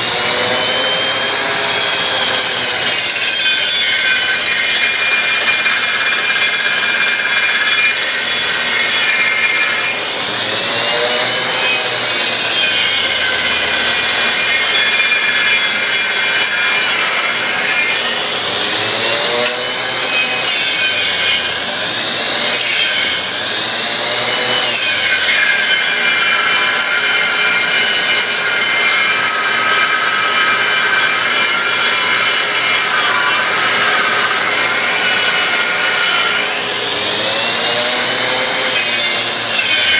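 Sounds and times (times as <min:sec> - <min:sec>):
grinder saw blade cutting wood: 0:00.0 - 0:39.9.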